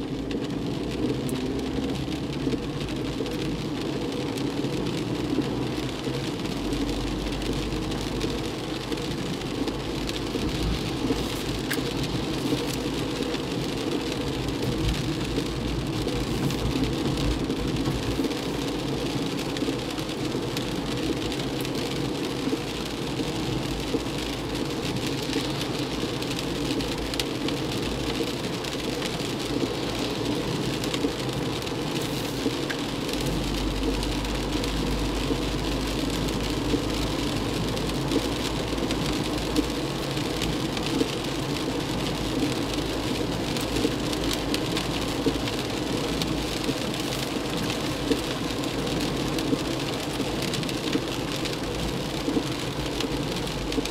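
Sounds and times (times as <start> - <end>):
heavy rain pelting a car: 0.0 - 53.9
tyre hiss on wet road: 0.8 - 53.9.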